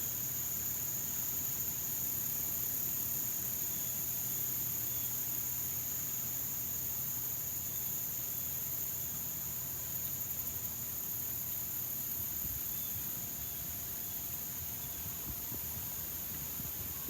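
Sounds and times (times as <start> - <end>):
insects trilling drone: 0.0 - 17.0.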